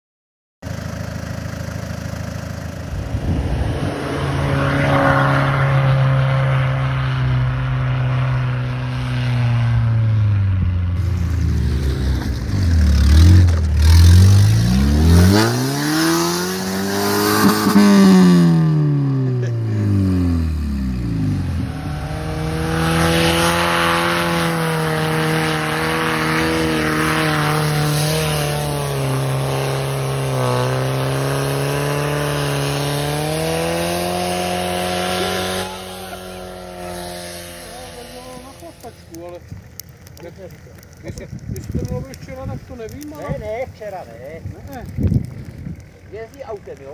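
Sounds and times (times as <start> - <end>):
suv engine revving: 0.7 - 40.2.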